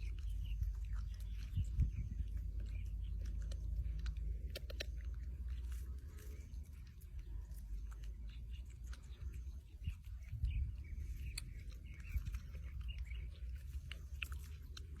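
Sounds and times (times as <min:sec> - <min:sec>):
monkey chewing food: 0:00.0 - 0:15.0.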